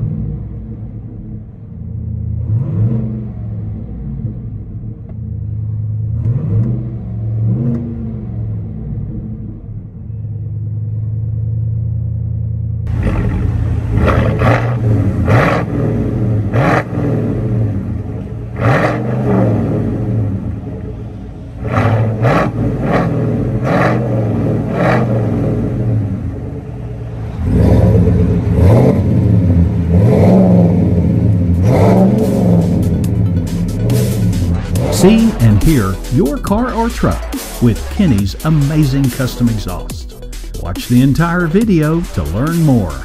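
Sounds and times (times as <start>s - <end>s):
truck engine idling and revving: 0.0s - 43.0s.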